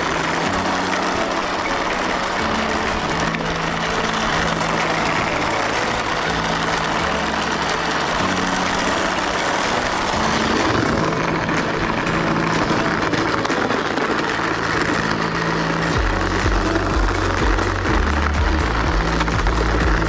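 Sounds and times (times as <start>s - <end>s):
toy truck motor whirring: 0.0s - 20.0s.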